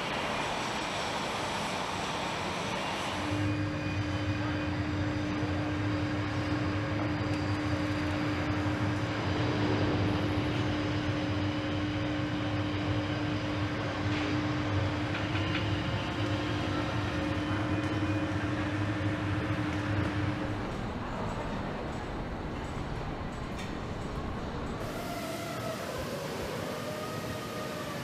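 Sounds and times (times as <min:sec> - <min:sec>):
mechanical drone: 0:03.1 - 0:28.0.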